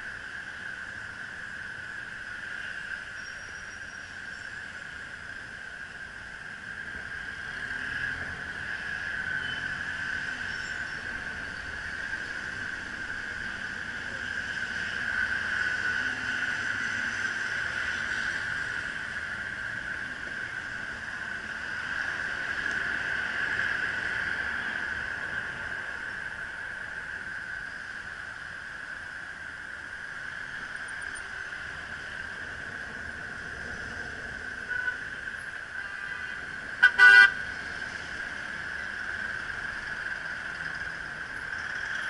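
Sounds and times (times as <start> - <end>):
traffic and road noise: 0.0 - 42.0.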